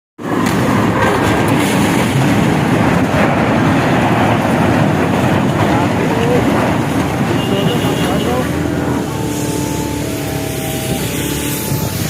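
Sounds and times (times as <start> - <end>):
train wheels rumbling on track: 0.2 - 12.0.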